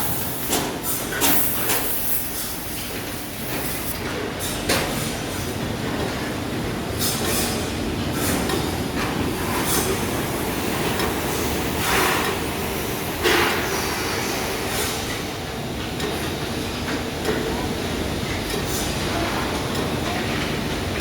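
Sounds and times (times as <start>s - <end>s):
loud machinery noise: 0.0s - 21.0s.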